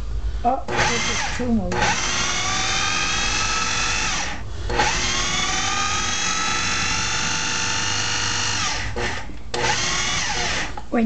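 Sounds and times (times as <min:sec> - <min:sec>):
food processor whining: 0:00.7 - 0:10.9.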